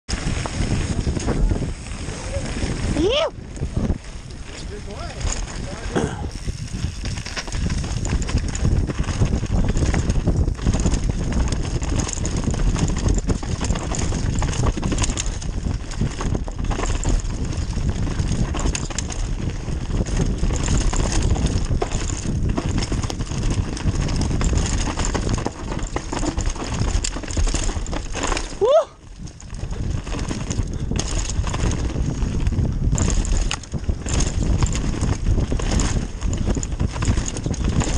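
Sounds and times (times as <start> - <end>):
mountain bike clattering on trail: 0.1 - 37.9
tyre rumble: 0.1 - 37.9.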